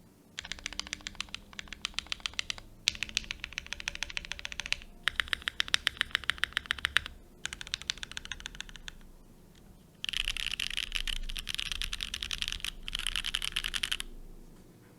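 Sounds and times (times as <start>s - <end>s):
mechanical keyboard typing: 0.4s - 14.3s.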